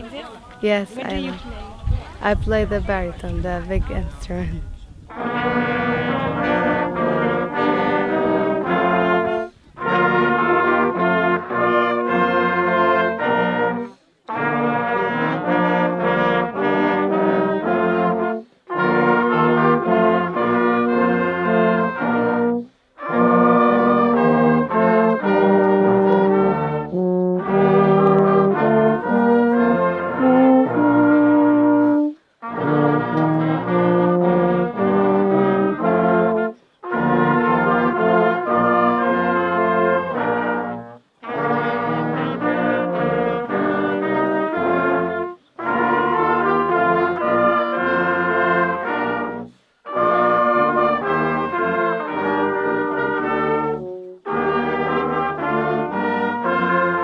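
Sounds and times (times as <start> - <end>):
brass band playing slow chords: 0.0 - 1.2, 2.7 - 57.0.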